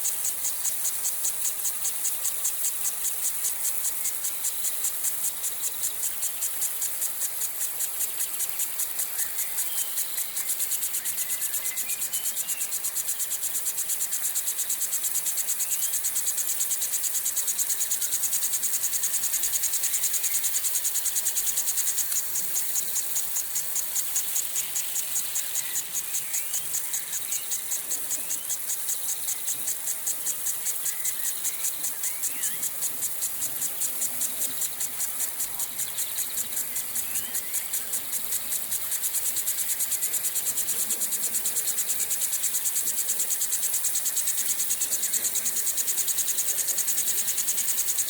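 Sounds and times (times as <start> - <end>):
sprinkler pulsing hiss: 0.0 - 48.0.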